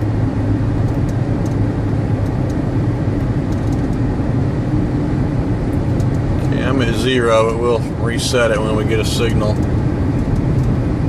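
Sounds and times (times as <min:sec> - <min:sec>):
car cabin road noise: 0:00.0 - 0:11.0
low steady hum: 0:00.0 - 0:11.0.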